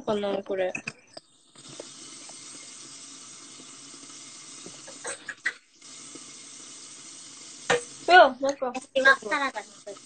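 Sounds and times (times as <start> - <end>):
watery hiss: 1.3 - 10.0.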